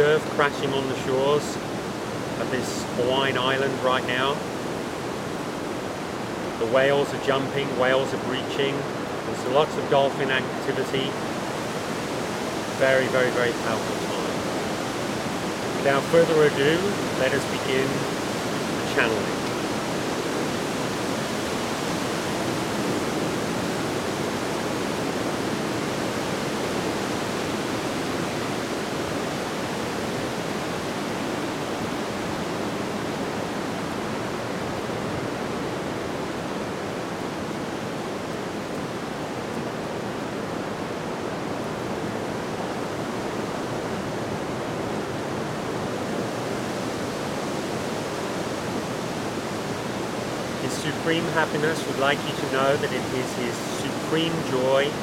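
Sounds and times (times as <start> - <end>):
heavy surf breaking: 0.0 - 55.0.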